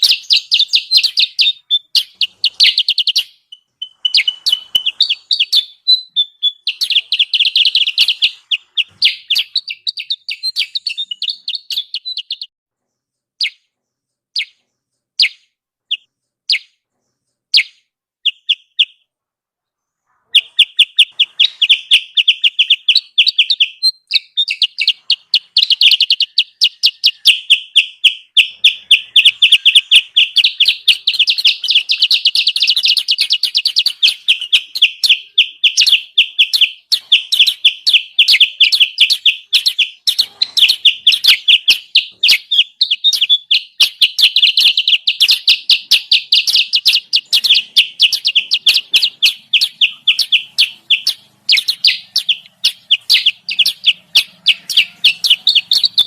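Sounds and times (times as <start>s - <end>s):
rapid high bird chirps: 0.0s - 56.0s.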